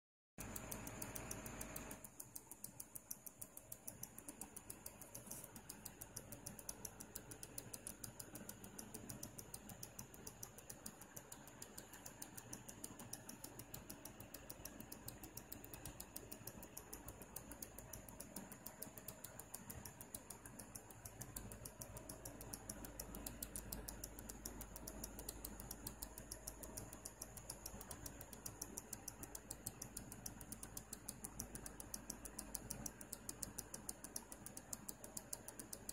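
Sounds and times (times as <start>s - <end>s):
power supply ticking rapidly: 0.4s - 35.9s.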